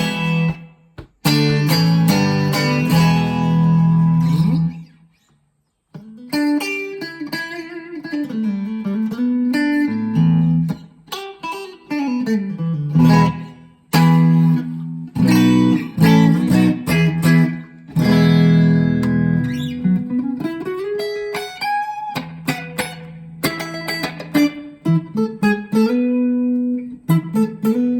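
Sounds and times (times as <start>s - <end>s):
electric guitar playing: 0.0s - 5.3s, 5.9s - 27.9s.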